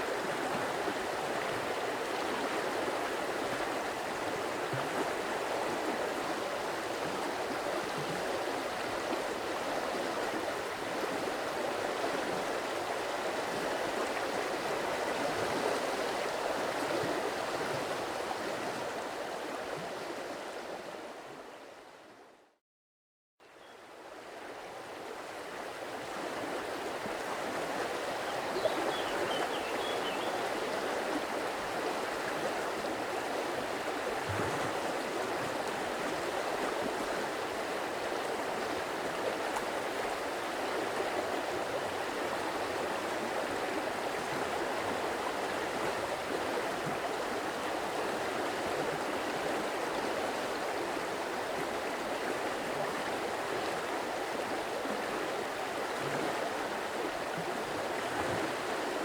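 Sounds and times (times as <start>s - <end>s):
stream water rushing and splashing: 0.0s - 21.4s, 23.8s - 59.0s.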